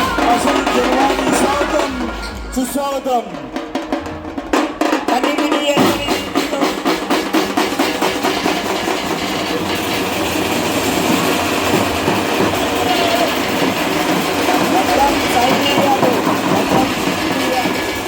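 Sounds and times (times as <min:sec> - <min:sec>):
loud fast drumming: 0:00.0 - 0:18.0.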